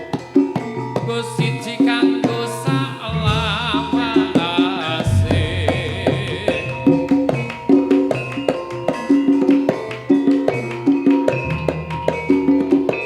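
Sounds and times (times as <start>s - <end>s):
hand drum strokes: 0.0s - 13.0s
struck metallophones: 0.0s - 13.0s.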